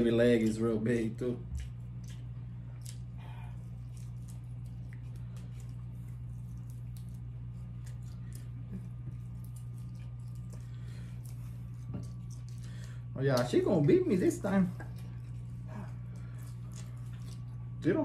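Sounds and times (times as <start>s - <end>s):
steady low hum: 0.0s - 18.0s
wet chewing smacks: 1.4s - 13.6s, 14.4s - 17.8s.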